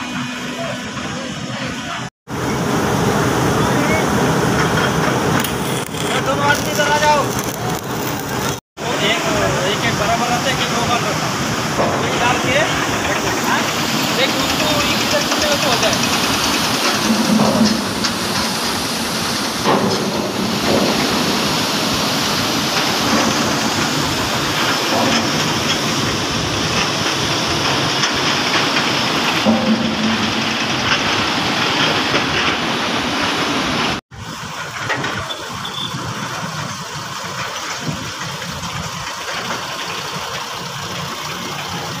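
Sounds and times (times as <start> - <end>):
crane engine running: 0.0 - 42.0.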